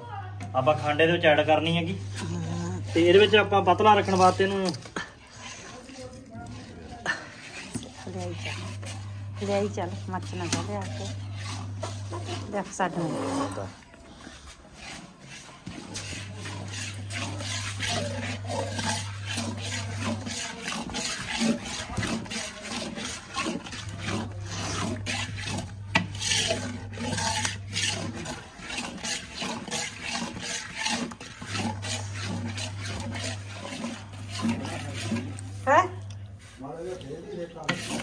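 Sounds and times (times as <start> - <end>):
metal stirrer scraping iron pan: 0.6 - 38.0.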